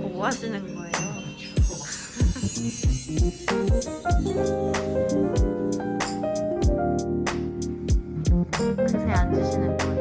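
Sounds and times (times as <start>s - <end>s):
plucked strings and keyboard music: 0.0s - 10.0s.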